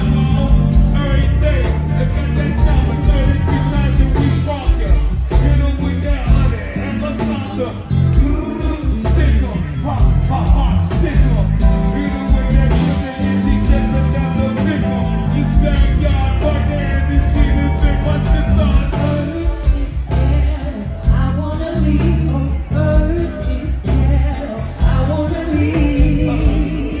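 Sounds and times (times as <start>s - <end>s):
live band playing: 0.0s - 27.0s
person singing into microphone: 0.0s - 27.0s.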